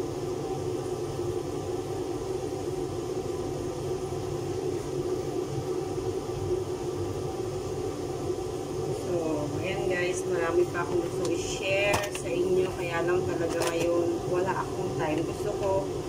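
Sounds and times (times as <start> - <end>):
extractor fan humming: 0.0 - 16.0.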